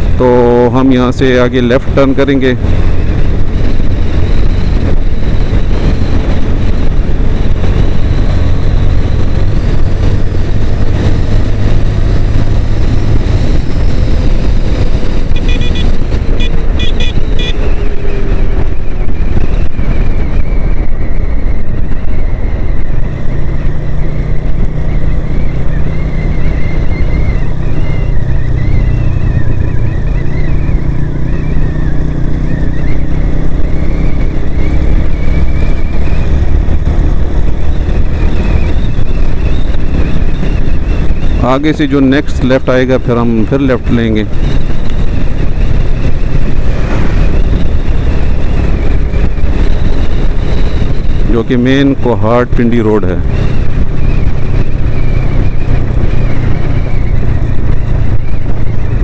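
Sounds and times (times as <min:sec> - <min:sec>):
motorcycle engine running: 0:00.0 - 0:59.0
wind rushing past microphone: 0:00.0 - 0:59.0.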